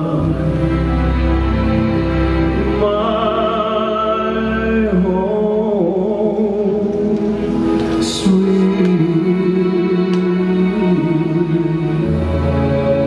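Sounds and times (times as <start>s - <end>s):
man singing with vibrato: 0.0s - 1.2s, 2.5s - 12.7s
instrumental backing music: 0.0s - 13.0s.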